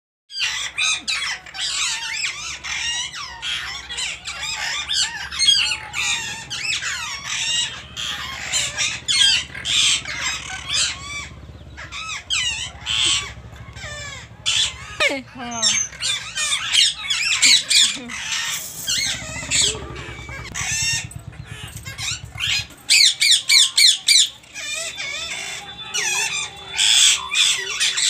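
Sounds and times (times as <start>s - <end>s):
parakeets calling: 0.3s - 28.0s.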